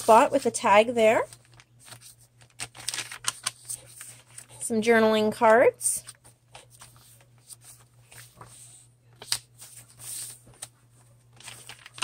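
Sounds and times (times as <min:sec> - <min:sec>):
paper pages rustling: 0:00.0 - 0:04.6, 0:06.0 - 0:12.0.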